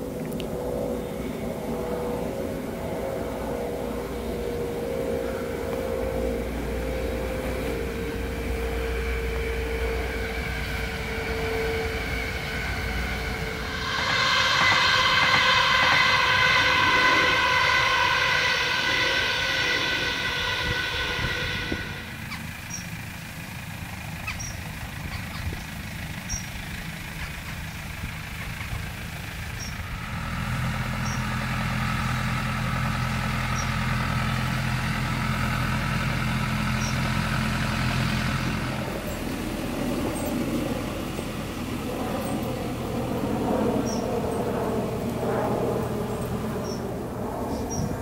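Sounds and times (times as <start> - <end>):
electric train passing: 0.0 - 48.0
low vehicle hum: 0.0 - 48.0.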